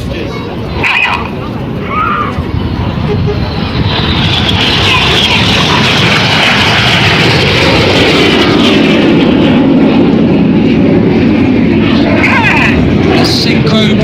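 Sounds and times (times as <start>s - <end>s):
jets passing low: 0.0s - 14.0s.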